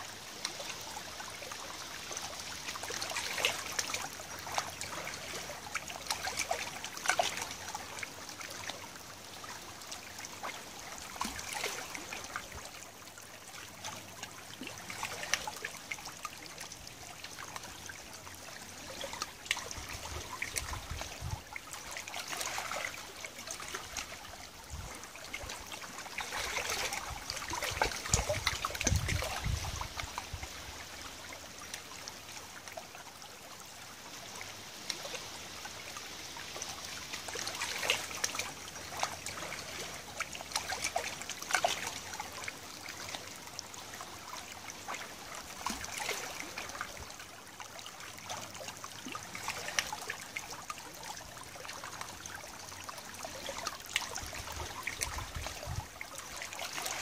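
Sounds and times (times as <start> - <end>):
river water trickling and lapping: 0.0 - 57.0.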